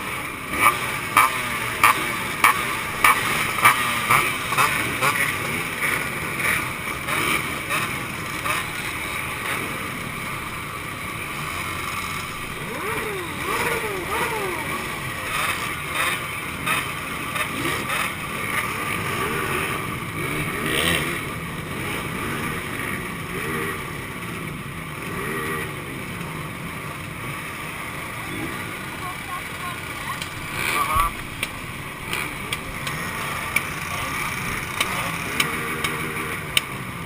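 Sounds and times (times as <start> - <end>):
two-stroke motorcycle engines revving: 0.0 - 37.0.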